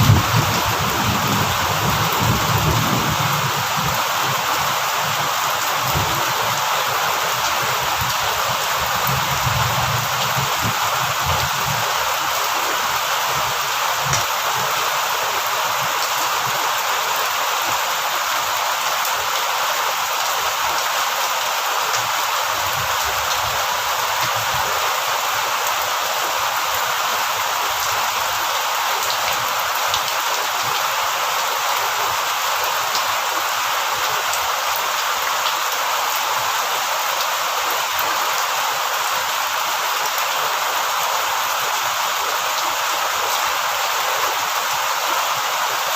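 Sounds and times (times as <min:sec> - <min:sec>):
heavy rain hiss: 0:00.0 - 0:45.9.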